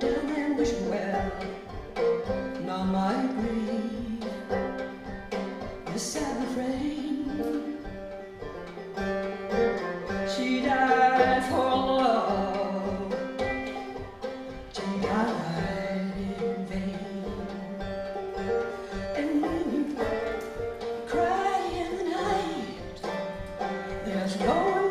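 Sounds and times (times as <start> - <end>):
woman singing: 0.0 - 1.8, 2.5 - 4.8, 5.8 - 8.0, 10.2 - 18.0, 18.6 - 24.9
banjo picking: 0.0 - 24.9.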